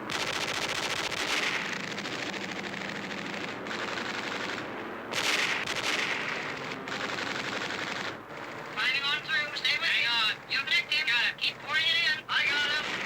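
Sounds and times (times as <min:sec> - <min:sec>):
machine guns firing bursts: 0:00.0 - 0:13.0.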